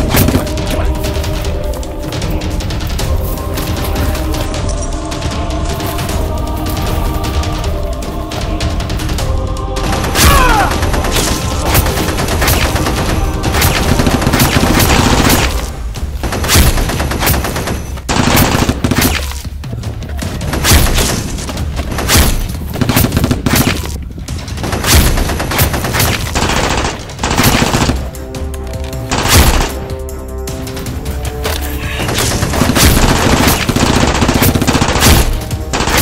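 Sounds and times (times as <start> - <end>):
rapid gunfire sound effects: 0.0 - 19.5, 20.2 - 28.2, 32.0 - 36.0
background music: 0.0 - 36.0.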